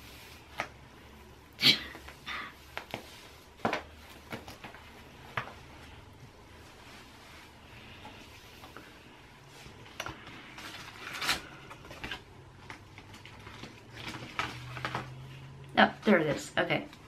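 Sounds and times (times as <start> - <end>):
low steady hum: 0.0 - 17.0
soft rustling and handling noises: 0.0 - 17.0.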